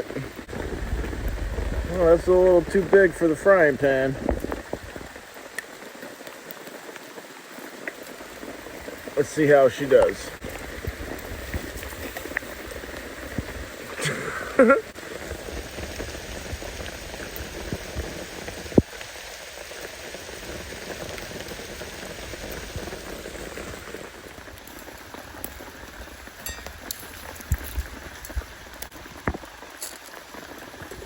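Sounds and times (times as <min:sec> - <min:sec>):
rain falling on a tarp: 0:00.0 - 0:31.0.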